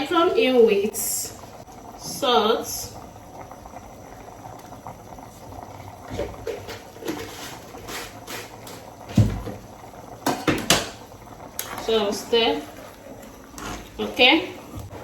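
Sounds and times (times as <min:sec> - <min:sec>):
soup bubbling in a pot: 0:00.0 - 0:15.0.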